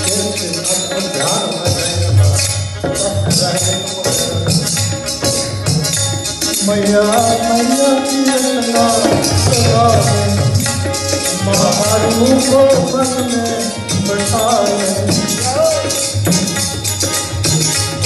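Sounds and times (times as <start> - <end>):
man singing into a microphone: 0.0 - 5.6, 6.5 - 16.7
amplified accompaniment: 0.0 - 18.0
rattling rhythm: 0.0 - 18.0.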